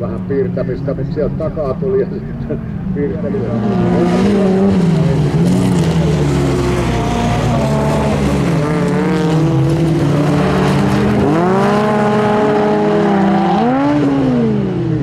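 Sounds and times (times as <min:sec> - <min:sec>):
car engines revving hard: 0:00.0 - 0:15.0.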